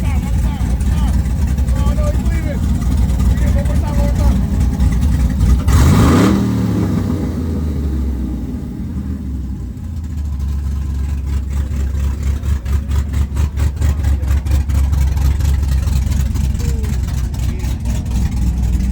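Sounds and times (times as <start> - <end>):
lumpy engine idle: 0.0 - 18.9.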